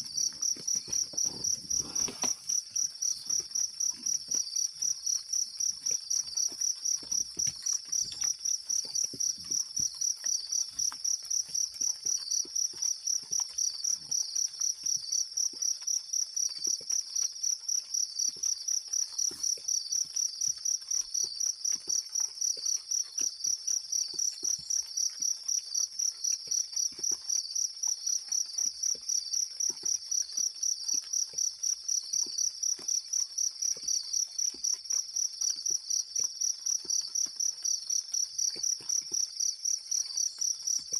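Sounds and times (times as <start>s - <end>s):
insect chirping: 0.0s - 40.9s.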